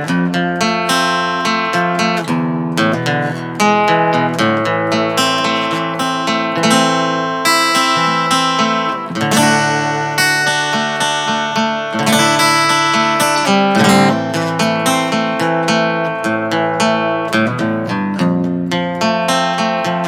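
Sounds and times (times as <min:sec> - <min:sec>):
fingerpicked acoustic guitar: 0:00.0 - 0:20.0.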